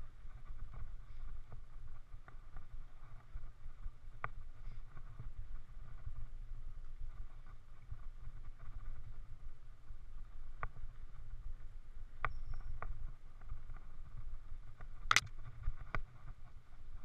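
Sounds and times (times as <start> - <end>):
low rumble of bumps and wind: 0.0 - 17.0.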